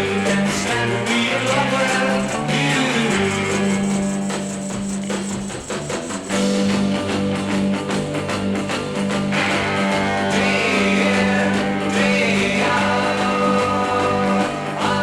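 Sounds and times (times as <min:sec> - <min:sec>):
instrumental pop music: 0:00.0 - 0:15.0.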